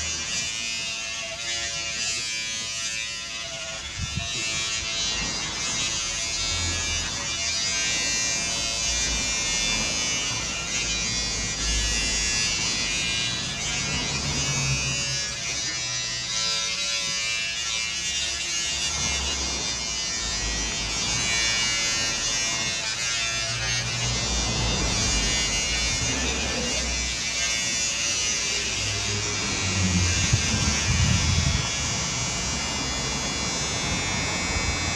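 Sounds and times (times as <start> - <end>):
electric hair clippers buzzing: 0.0 - 34.9.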